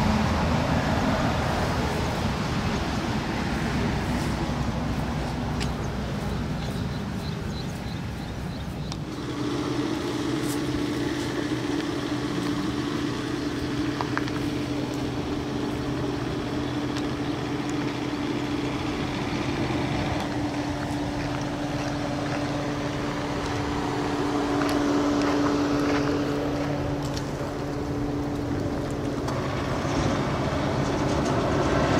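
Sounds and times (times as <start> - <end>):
engine running steadily: 0.0 - 31.9.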